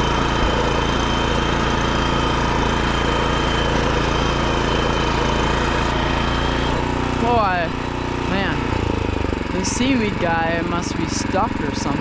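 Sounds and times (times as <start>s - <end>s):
walk-behind tractor engine running: 0.0s - 12.0s.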